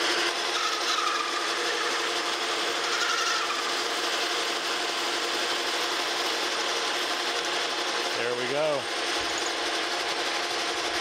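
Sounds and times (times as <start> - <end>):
lathe motor hum: 0.0 - 11.0
lathe tool rasping through metal: 0.0 - 11.0.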